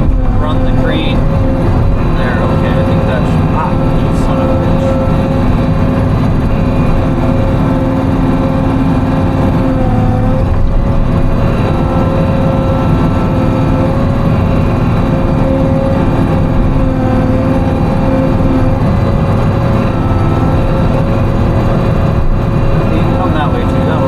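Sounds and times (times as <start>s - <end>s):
diesel engine running with whine: 0.0s - 24.0s.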